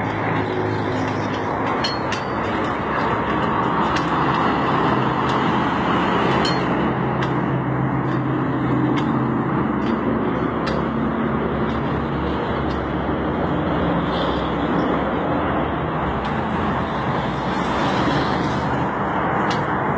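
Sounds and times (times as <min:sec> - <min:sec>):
constant noise: 0:00.0 - 0:19.9.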